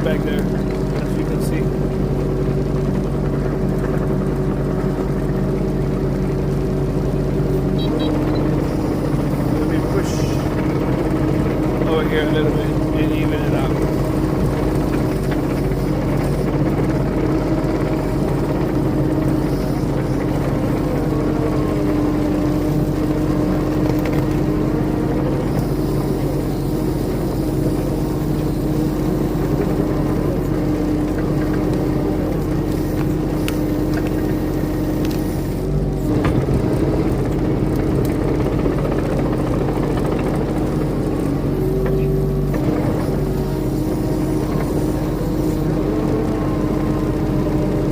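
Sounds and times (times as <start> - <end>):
skid steer engine droning: 0.0 - 47.9.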